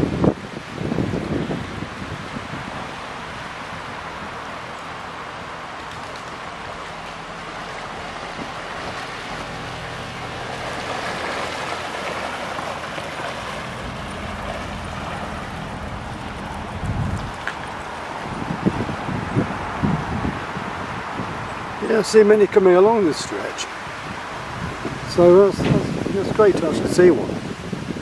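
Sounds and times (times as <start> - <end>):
boat engine humming: 0.0 - 28.0
water churning and splashing: 0.0 - 28.0.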